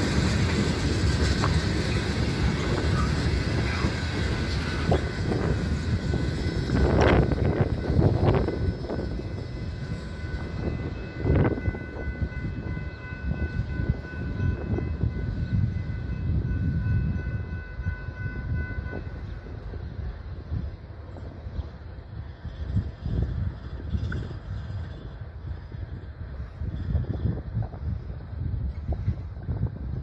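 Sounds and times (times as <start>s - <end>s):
freight train rumbling: 0.0s - 30.0s.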